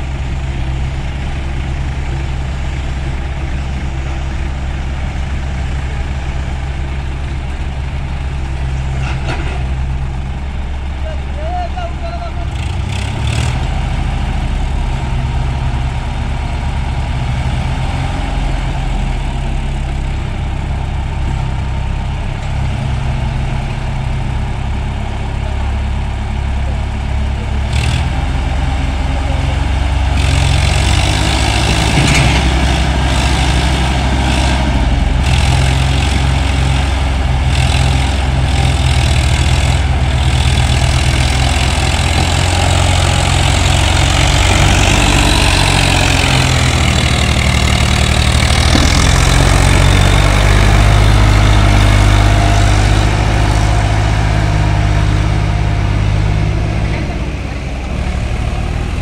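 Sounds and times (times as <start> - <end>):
excavator engine running: 0.0 - 59.0
tractor diesel engine: 0.0 - 59.0.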